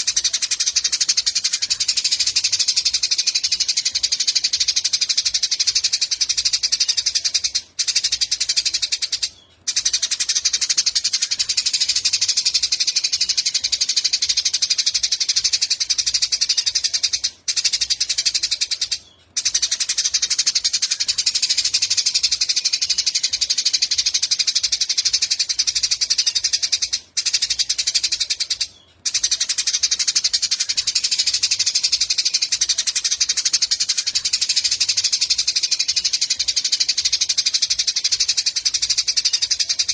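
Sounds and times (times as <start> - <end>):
sparrows chirping in chorus: 0.0 - 39.9.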